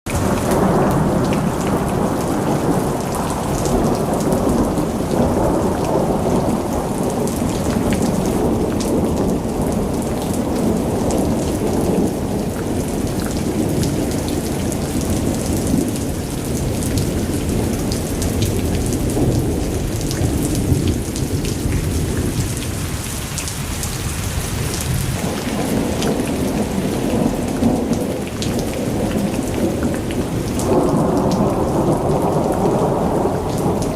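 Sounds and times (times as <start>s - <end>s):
rolling thunder: 0.1s - 23.1s, 23.7s - 33.9s
heavy rain pattering: 0.1s - 33.9s.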